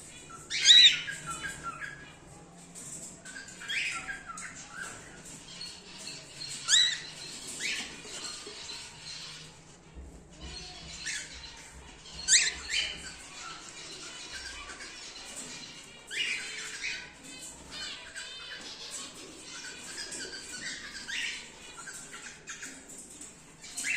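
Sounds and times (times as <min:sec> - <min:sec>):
cockatiels calling: 0:00.1 - 0:02.2, 0:03.2 - 0:09.8, 0:10.4 - 0:23.9.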